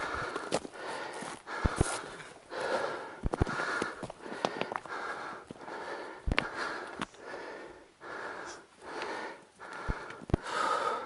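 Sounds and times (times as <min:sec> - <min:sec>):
person breathing hard: 0:00.0 - 0:11.0.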